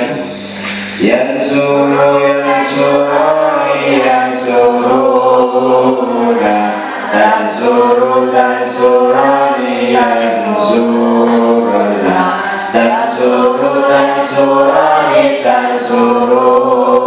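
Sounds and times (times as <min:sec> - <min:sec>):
men chanting in unison: 0:01.0 - 0:17.0.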